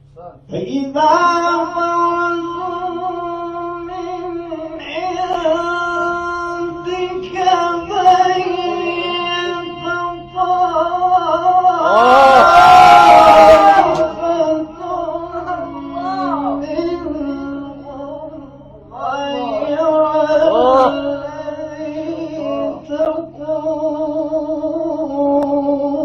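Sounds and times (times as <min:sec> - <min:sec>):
person reciting melodically: 0:00.1 - 0:12.6, 0:13.4 - 0:26.0.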